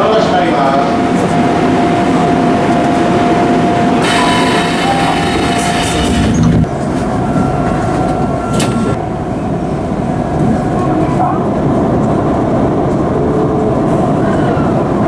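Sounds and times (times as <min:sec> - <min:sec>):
electric train whine: 0:00.0 - 0:15.0.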